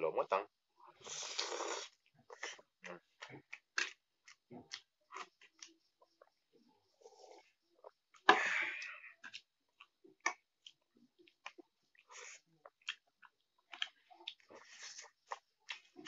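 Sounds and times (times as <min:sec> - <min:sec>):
soft chewing: 0:00.8 - 0:16.0.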